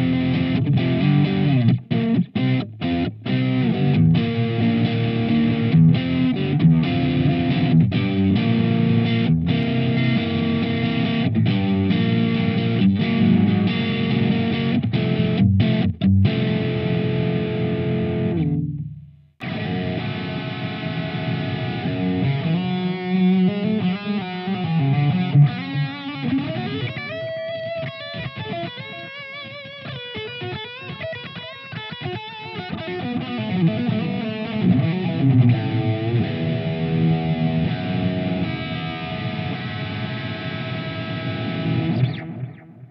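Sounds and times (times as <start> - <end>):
distorted electric guitar chords: 0.0 - 42.9
electric guitar lead lines: 0.0 - 42.9.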